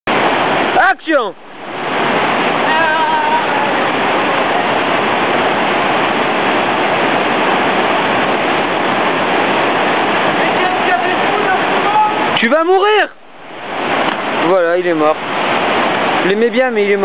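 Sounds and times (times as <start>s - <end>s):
whitewater river rushing: 0.1s - 17.0s.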